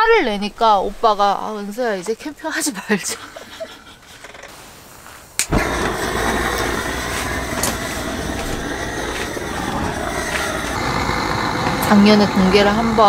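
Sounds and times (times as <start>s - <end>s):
steady rumbling with hiss: 0.0s - 13.0s.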